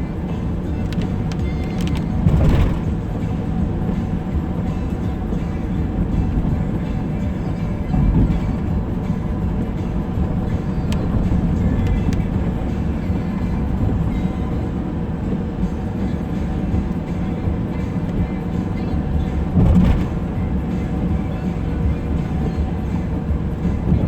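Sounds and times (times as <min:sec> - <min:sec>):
music on car stereo: 0:00.0 - 0:24.0
tyre and road rumble: 0:00.0 - 0:24.0.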